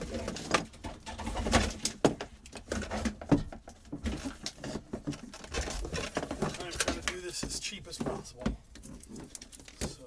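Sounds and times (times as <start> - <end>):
clatter and scraping of fittings: 0.0 - 10.0.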